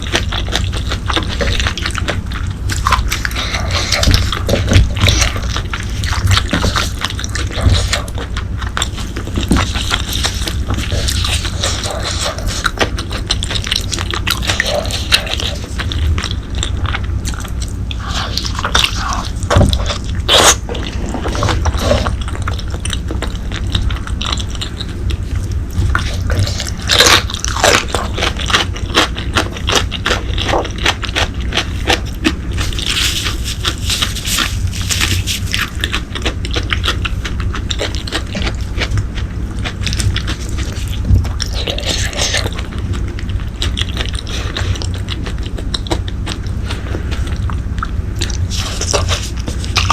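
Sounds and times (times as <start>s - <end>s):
wet chewing and mouth clicks: 0.0s - 49.9s.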